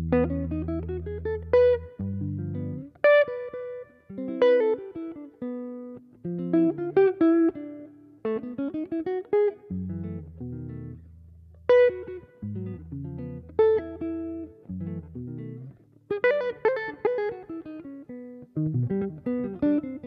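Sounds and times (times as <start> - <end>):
electric guitar jazz ballad: 0.0 - 20.0.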